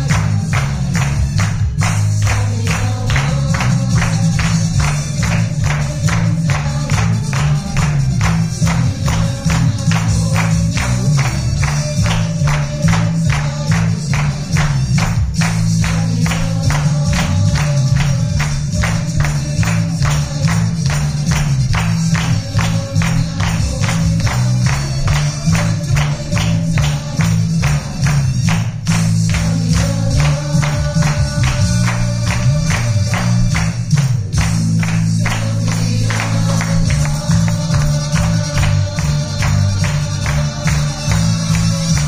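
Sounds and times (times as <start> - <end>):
upbeat dance music: 0.0 - 42.0.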